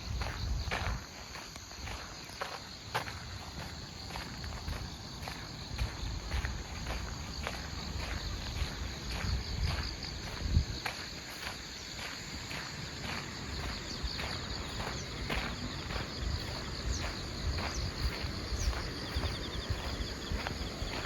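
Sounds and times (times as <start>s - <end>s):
crickets chirping: 0.0s - 21.0s
footsteps walking: 0.0s - 21.0s.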